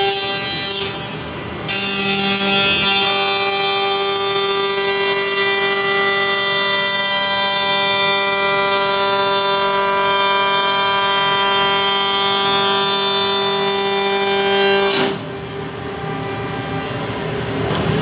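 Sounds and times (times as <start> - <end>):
milling spindle high whine: 0.0 - 17.7.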